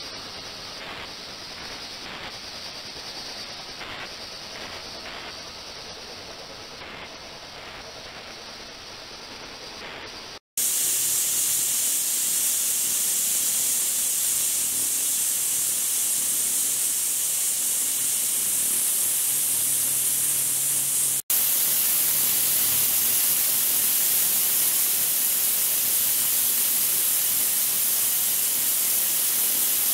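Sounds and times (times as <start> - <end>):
ultrasonic cleaner hissing: 0.0 - 29.9.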